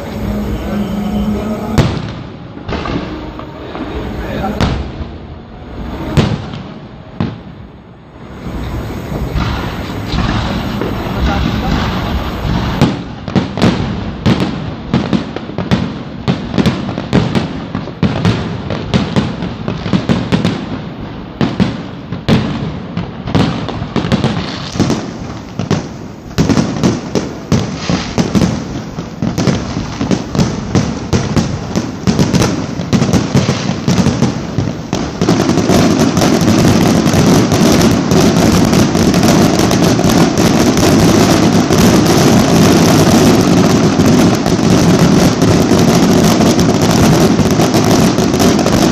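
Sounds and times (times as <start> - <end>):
fireworks banging and crackling: 0.0 - 48.9.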